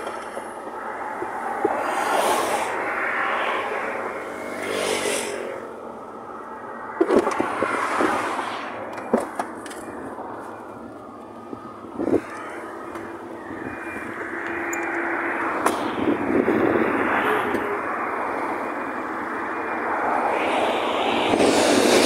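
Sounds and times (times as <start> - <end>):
highway traffic passing: 0.0 - 22.0.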